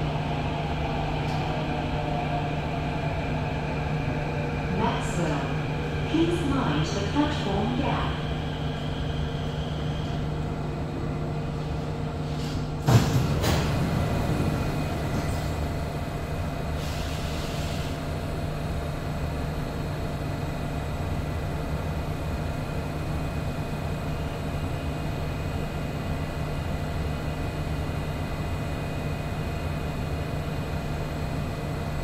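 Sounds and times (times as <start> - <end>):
metro train interior rumble: 0.0 - 32.0.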